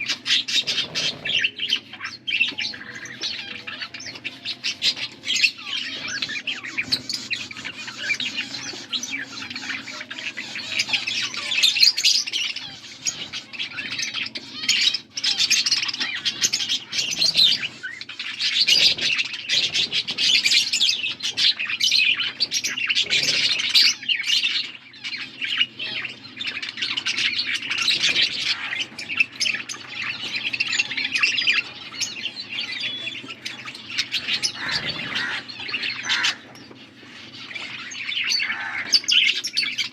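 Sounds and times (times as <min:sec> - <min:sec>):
budgies chirping and chattering: 0:00.0 - 0:39.9.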